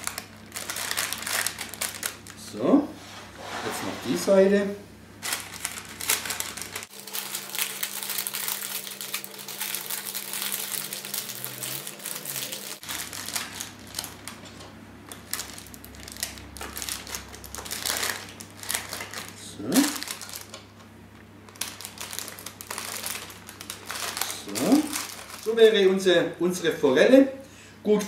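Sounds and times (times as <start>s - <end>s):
baking paper crinkling: 0.0s - 2.5s, 5.2s - 20.8s, 21.5s - 26.8s.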